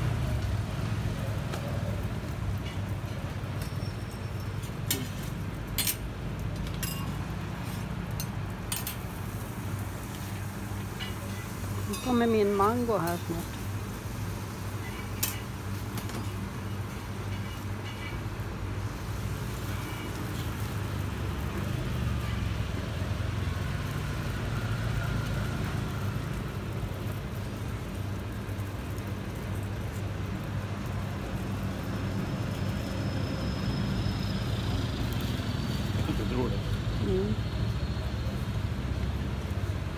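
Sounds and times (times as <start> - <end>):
urban street rumble and hum: 0.0 - 39.9.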